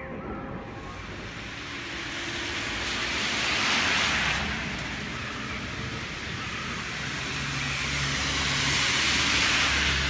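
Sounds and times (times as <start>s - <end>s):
car tyres hissing on wet road: 1.2s - 10.0s.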